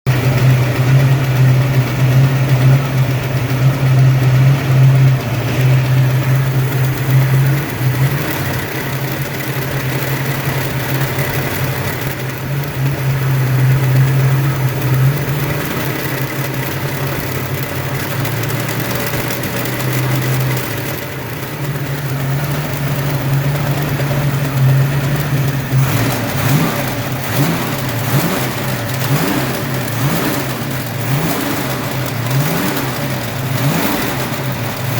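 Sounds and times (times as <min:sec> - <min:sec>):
engine idling: 0:00.0 - 0:34.9
engine knock: 0:00.0 - 0:34.9.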